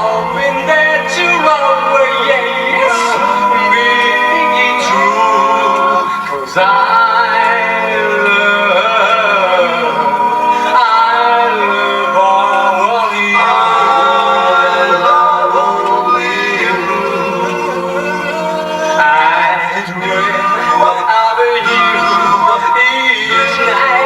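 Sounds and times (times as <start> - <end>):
vocal group singing a cappella: 0.0 - 24.0.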